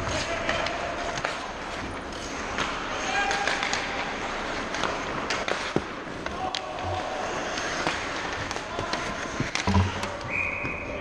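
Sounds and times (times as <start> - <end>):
skate blades scraping ice: 0.0 - 10.2
hockey sticks and puck clacking: 0.0 - 11.0.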